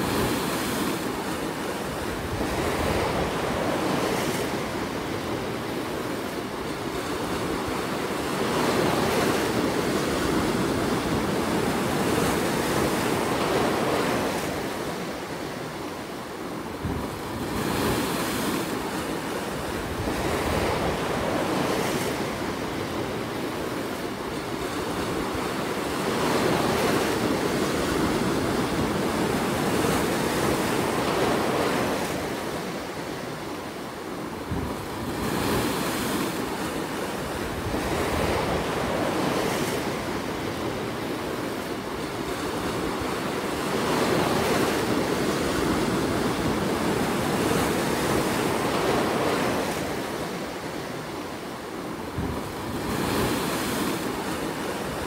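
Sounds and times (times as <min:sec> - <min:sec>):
surf washing over rocks: 0:00.0 - 0:55.0.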